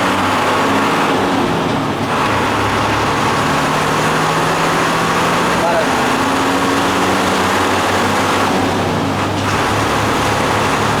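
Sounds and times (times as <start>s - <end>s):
road and traffic noise: 0.0s - 11.0s
vehicle engine running: 0.0s - 11.0s.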